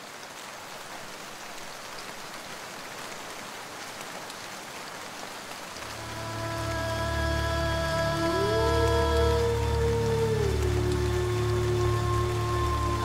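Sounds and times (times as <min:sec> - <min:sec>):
rain on a lake: 0:00.0 - 0:13.0.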